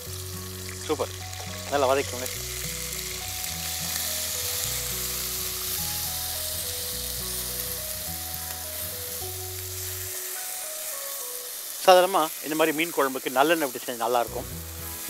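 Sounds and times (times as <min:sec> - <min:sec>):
background music: 0:00.0 - 0:15.0
onion paste sizzling in oil: 0:00.0 - 0:15.0.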